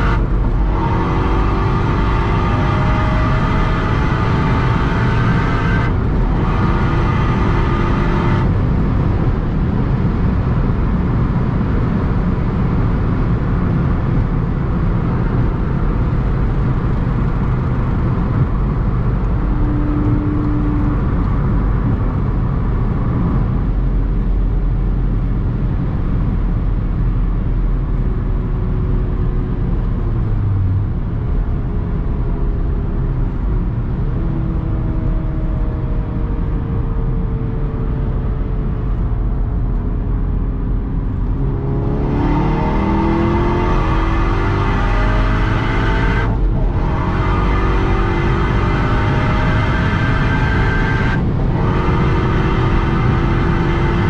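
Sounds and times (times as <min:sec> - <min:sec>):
wind and tyre noise: 0:00.0 - 0:54.0.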